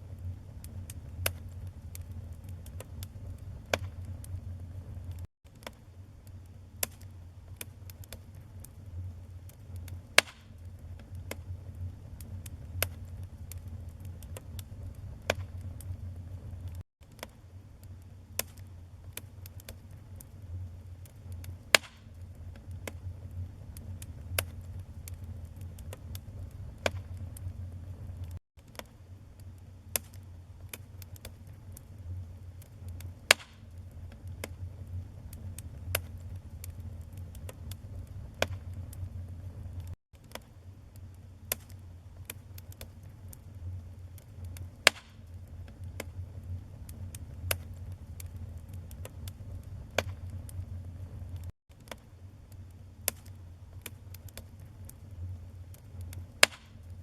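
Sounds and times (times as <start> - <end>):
fire burning: 0.0 - 57.0
fire crackling and popping: 0.0 - 57.0.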